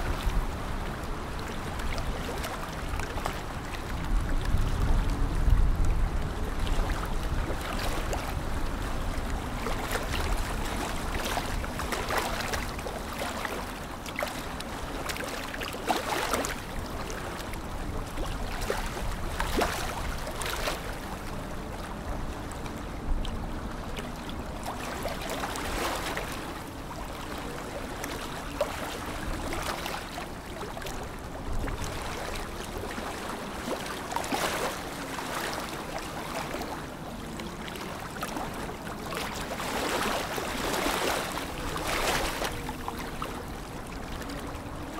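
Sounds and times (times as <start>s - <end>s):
lake water lapping at shore: 0.0s - 44.9s.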